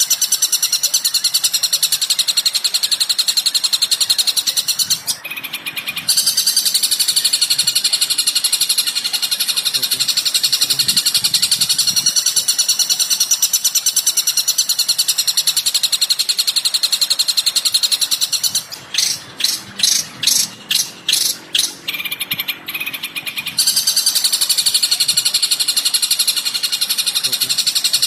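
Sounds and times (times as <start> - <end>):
buzzy bird trill: 0.0 - 28.0
sharp bird notes: 0.0 - 28.0.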